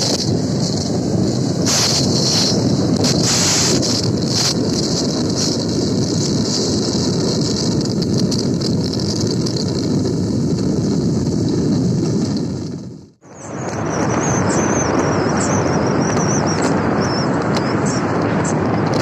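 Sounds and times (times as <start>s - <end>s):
truck engine and road noise: 0.0s - 19.0s.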